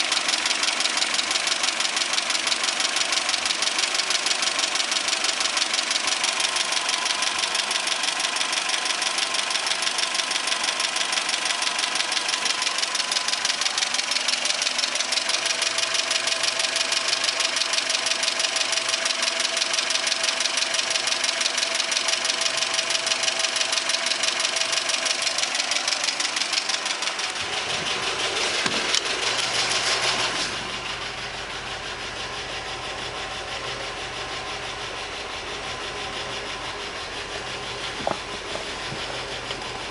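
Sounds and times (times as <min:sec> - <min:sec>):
petrol engine knocking: 0:00.0 - 0:29.6, 0:34.1 - 0:39.9.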